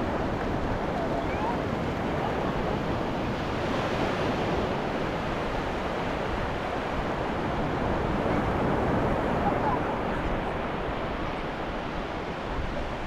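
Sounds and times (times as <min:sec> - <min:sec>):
ocean waves on beach: 0:00.0 - 0:13.0.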